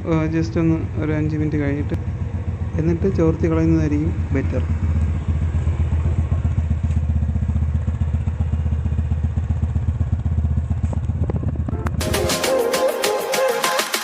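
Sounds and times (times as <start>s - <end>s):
scooter engine idling: 0.0s - 12.2s.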